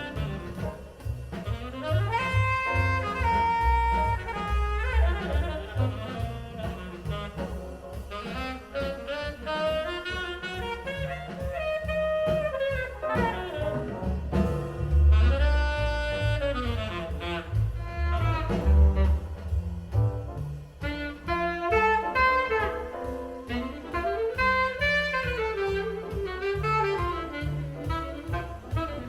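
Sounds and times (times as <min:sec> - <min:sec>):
double bass: 0:00.0 - 0:29.0
jazz saxophone: 0:00.0 - 0:29.0.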